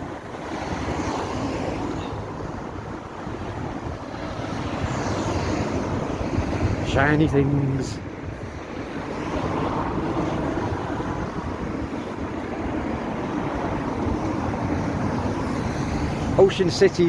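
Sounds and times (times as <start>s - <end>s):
street traffic rumble: 0.0s - 17.0s
wind on microphone: 0.0s - 17.0s.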